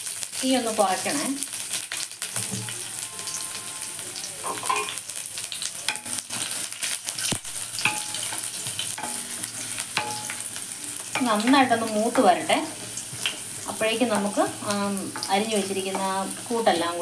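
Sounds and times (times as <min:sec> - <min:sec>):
oil crackling and popping: 0:00.0 - 0:03.0, 0:04.5 - 0:16.8
food sizzling in oil: 0:00.0 - 0:17.0.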